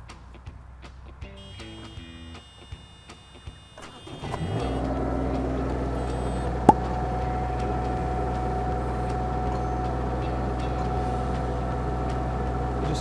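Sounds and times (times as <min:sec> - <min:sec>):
hydraulic whine: 0:01.4 - 0:12.6
diesel engine running: 0:01.4 - 0:13.0.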